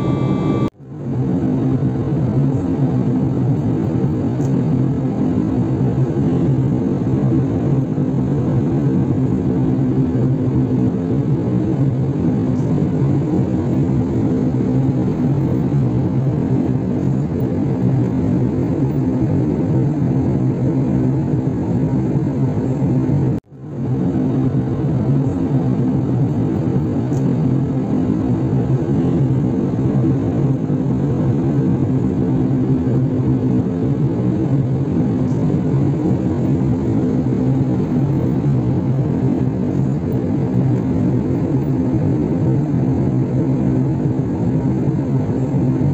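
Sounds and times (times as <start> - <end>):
jet engine cabin drone: 0.0 - 45.9.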